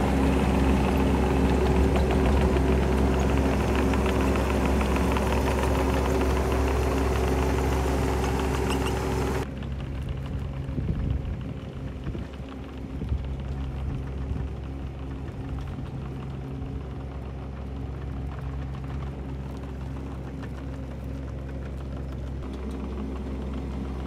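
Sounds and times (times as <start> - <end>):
mini excavator diesel engine: 0.0 - 24.0.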